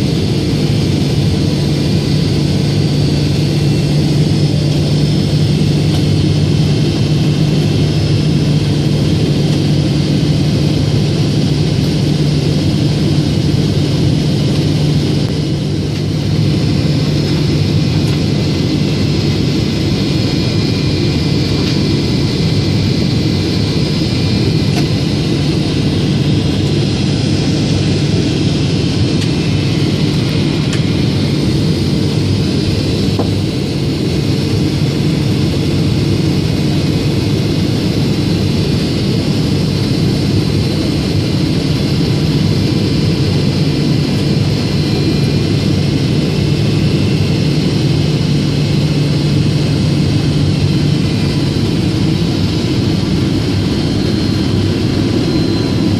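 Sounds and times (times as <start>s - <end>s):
aircraft engine hum: 0.0s - 55.9s.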